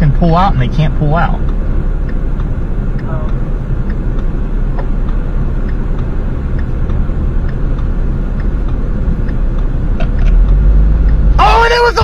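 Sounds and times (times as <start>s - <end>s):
car interior road rumble: 0.0s - 12.0s
faint regular tick: 1.4s - 11.4s.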